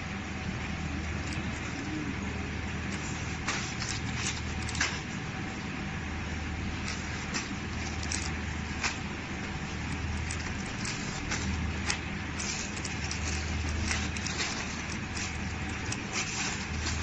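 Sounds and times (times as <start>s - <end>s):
packing machine humming: 0.0s - 17.0s.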